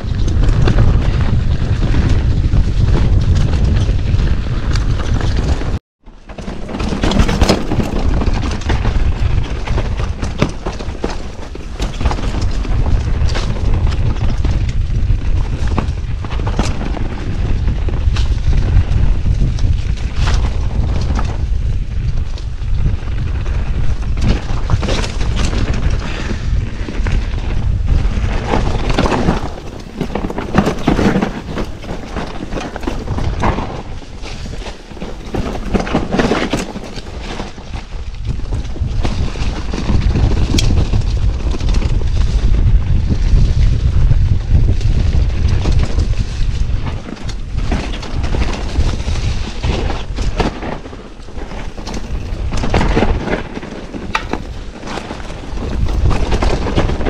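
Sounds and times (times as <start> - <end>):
bike knocks and rattles: 0.0 - 57.0
wind buffeting on microphone: 0.0 - 57.0.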